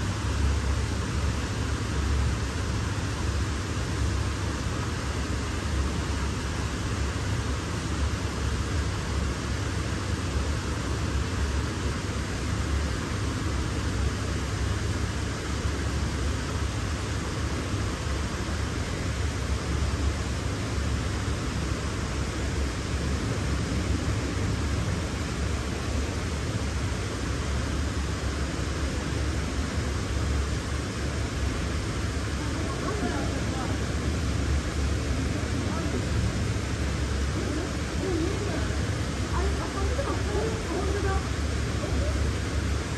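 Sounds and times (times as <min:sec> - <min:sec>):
steady background hiss: 0:00.0 - 0:42.9.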